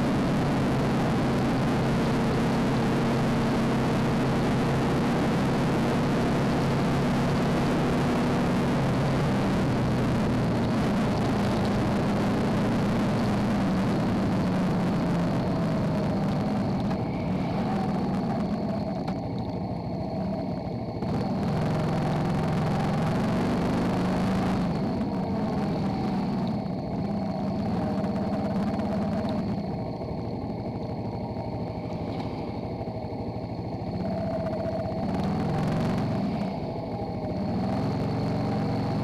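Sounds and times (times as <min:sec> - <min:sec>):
motorcycle engine running: 0:00.0 - 0:39.0
wind and road noise: 0:00.0 - 0:39.0.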